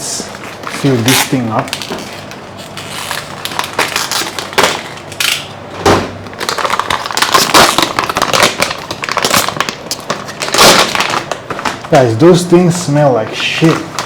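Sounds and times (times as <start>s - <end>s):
plastic packaging crinkling: 0.2s - 14.0s.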